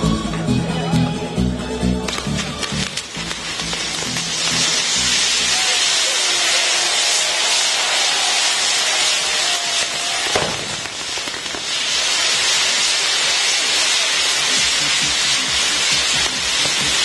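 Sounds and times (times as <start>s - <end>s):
firework fountains hissing: 1.9s - 17.0s
sharp crack: 2.1s - 17.0s.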